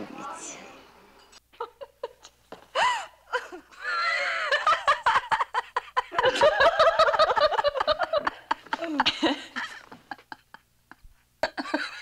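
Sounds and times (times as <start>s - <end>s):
women laughing heartily: 1.5s - 12.0s.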